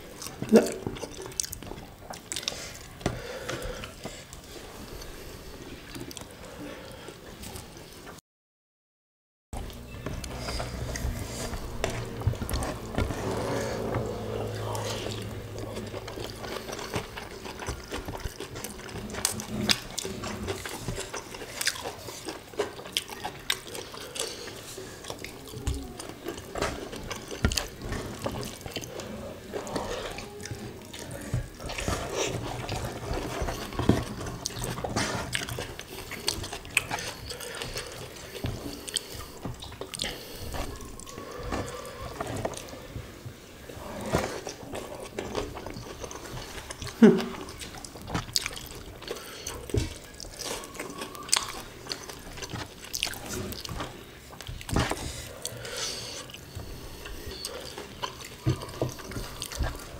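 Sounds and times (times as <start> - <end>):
squelchy chewing: 0.0 - 8.0, 9.6 - 59.9.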